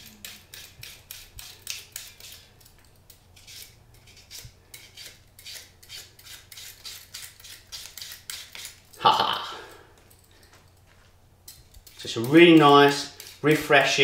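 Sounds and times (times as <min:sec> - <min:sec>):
peeler shaving fennel: 0:00.0 - 0:09.3, 0:11.5 - 0:14.0.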